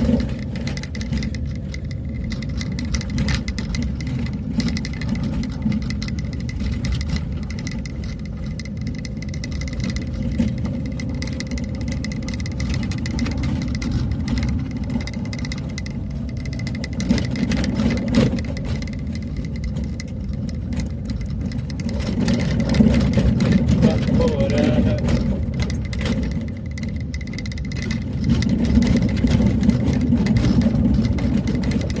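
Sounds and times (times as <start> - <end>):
small rattles: 0.0 - 32.0
vehicle engine and road rumble: 0.0 - 32.0.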